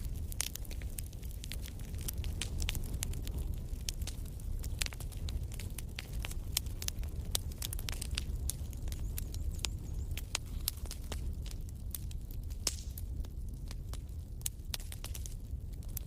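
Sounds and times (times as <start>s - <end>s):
fire popping and snapping: 0.0s - 16.0s
low rumble of flames: 0.0s - 16.0s.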